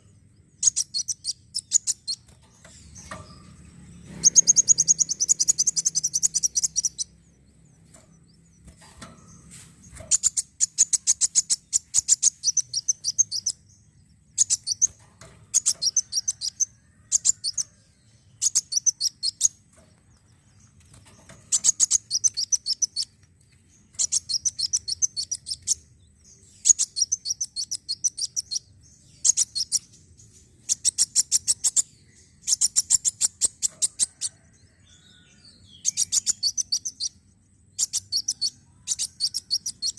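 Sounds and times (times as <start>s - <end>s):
bird singing high trilling chips: 0.0s - 39.9s.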